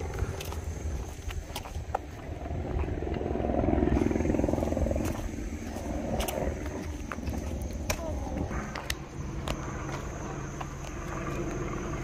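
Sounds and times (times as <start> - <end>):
engine passing by: 0.0 - 12.0
steady low rumble: 0.0 - 12.0.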